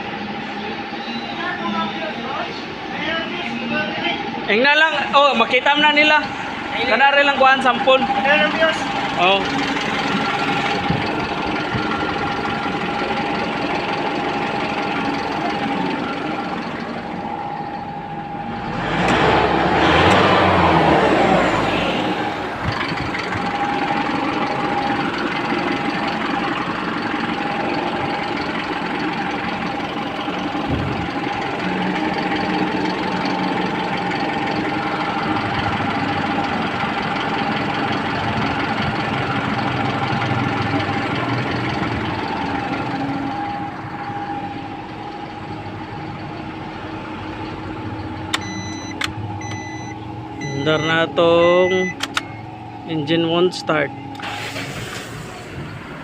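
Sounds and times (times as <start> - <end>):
car engine idling: 0.0 - 56.0
constant engine whine: 0.0 - 56.0.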